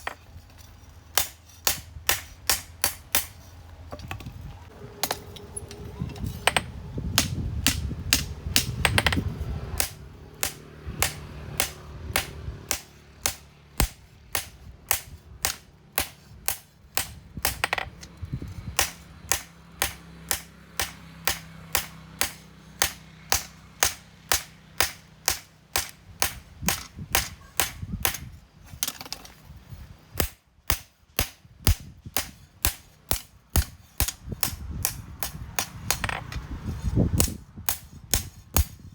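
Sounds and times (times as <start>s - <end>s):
hammer striking steel on anvil: 1.1s - 3.5s, 5.0s - 9.2s, 9.8s - 17.9s, 18.8s - 28.3s, 30.2s - 36.2s, 37.2s - 38.9s.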